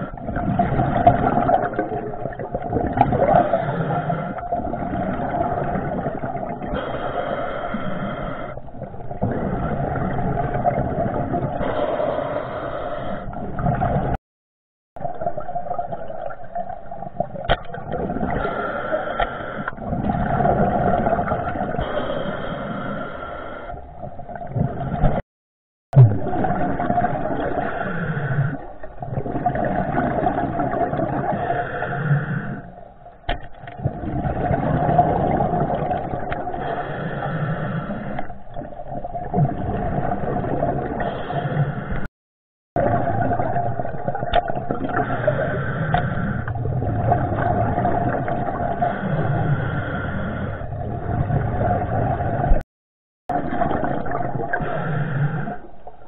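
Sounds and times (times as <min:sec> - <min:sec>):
muffled underwater rushing: 0:00.0 - 0:14.2, 0:15.0 - 0:25.2, 0:26.0 - 0:42.1, 0:42.8 - 0:52.6, 0:53.3 - 0:56.0.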